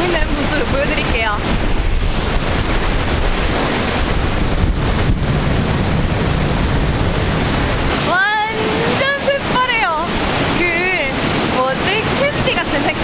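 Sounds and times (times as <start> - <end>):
stream rushing over rocks: 0.0 - 13.0
wind buffeting microphone: 0.0 - 13.0.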